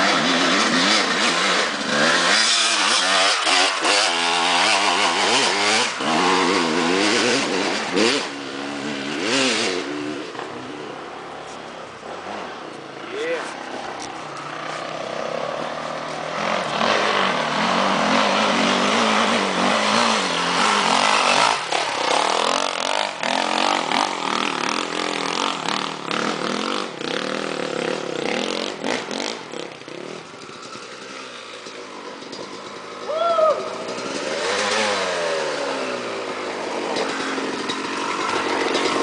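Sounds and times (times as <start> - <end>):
dirt bike engine revving: 0.0 - 39.0
second dirt bike engine approaching: 0.0 - 39.0.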